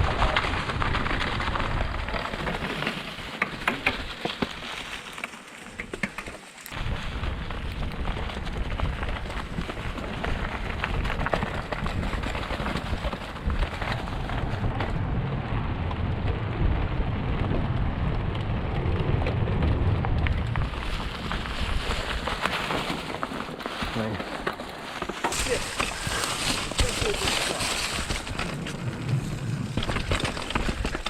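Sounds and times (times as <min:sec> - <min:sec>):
wind rumble on microphone: 0:00.0 - 0:02.8, 0:06.7 - 0:24.1, 0:25.4 - 0:31.0
bike rattling and tyres crunching: 0:00.0 - 0:31.0.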